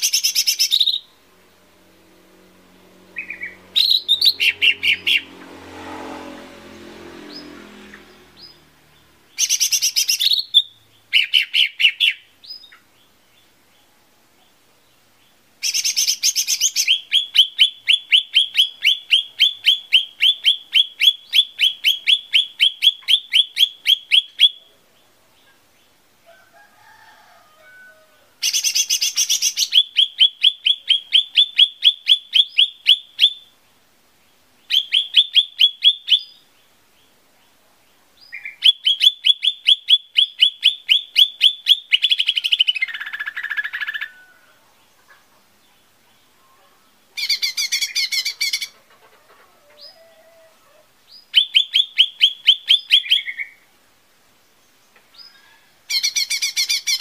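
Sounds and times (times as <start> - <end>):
small bird singing: 0.0 - 5.4, 7.2 - 26.1, 28.4 - 49.0, 49.7 - 57.0.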